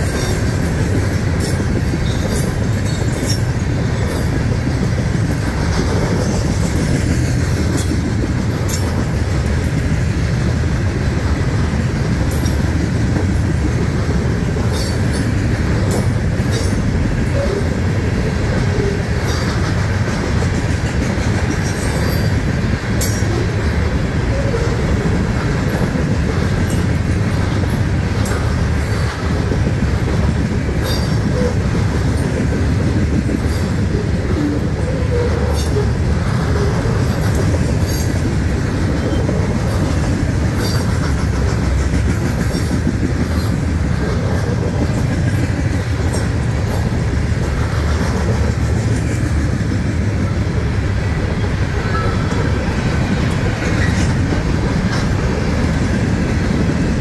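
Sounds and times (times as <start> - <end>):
sharp rail clicks: 0.0 - 57.0
train wheels rumbling on rails: 0.0 - 57.0.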